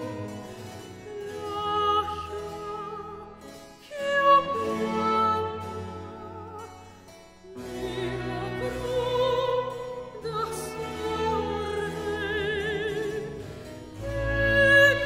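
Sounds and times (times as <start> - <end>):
operatic singing voice: 0.0 - 6.8, 7.4 - 15.0
sustained classical accompaniment: 0.0 - 15.0.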